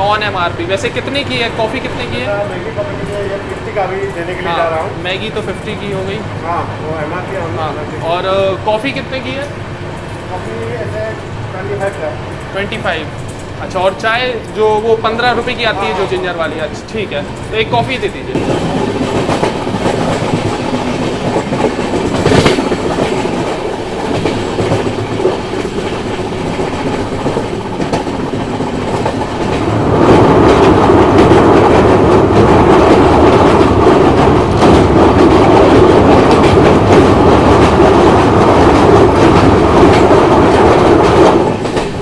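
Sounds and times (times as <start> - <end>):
train running with wheel clatter: 0.0 - 42.0.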